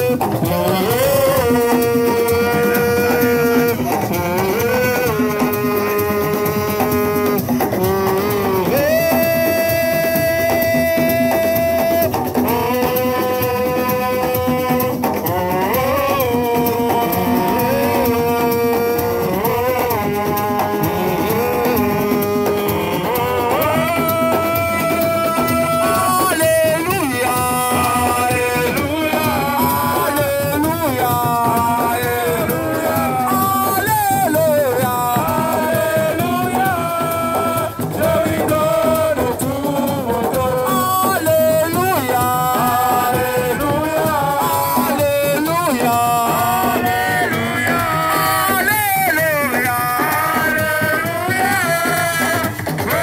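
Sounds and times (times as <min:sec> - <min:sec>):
drums and percussion: 0:00.0 - 0:53.0.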